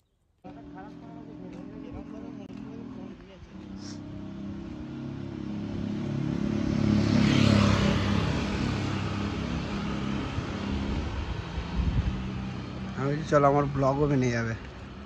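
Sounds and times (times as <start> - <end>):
vehicle engine passing by: 0.5 - 15.0.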